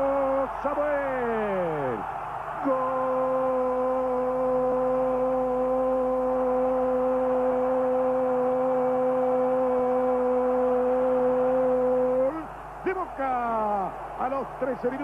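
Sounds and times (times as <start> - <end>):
stadium crowd noise: 0.0 - 15.0.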